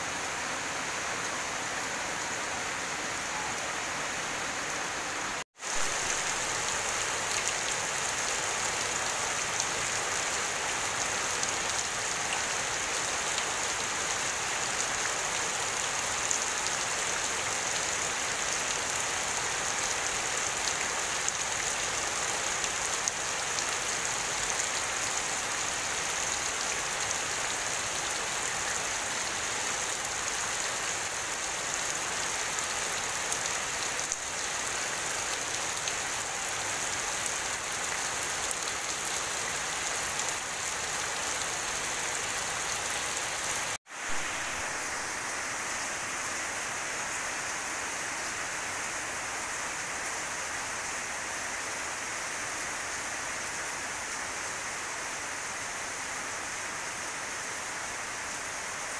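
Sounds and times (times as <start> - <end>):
rain on leaves and puddles: 0.0 - 58.9.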